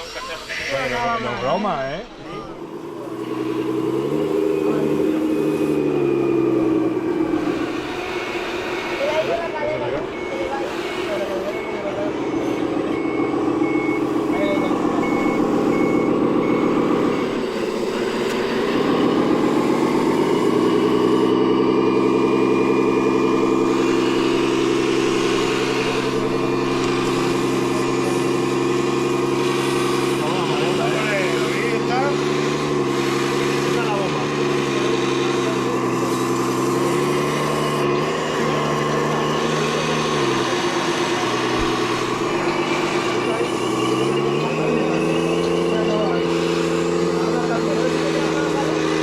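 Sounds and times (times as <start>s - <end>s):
model machine engine drone: 0.0s - 49.0s
toy excavator motor hum and whine: 2.3s - 49.0s.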